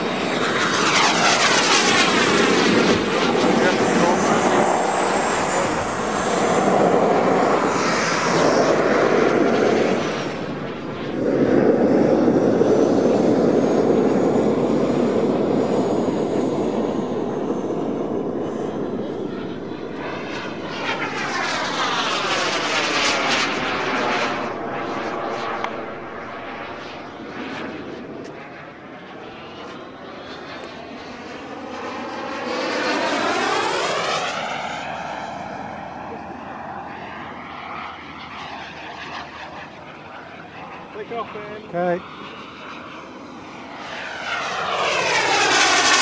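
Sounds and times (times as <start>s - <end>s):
model jet engine roar and whine: 0.0s - 46.0s.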